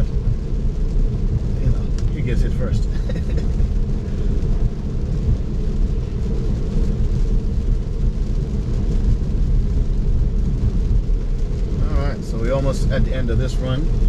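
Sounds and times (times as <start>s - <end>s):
rain: 0.0s - 14.0s
tyre and road noise: 0.0s - 14.0s.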